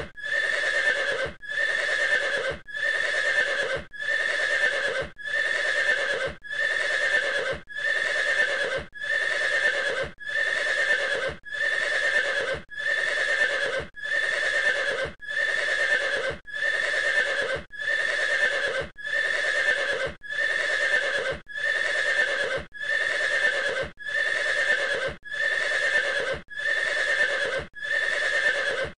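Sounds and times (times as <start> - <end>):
horse neighing: 0.0 - 29.0.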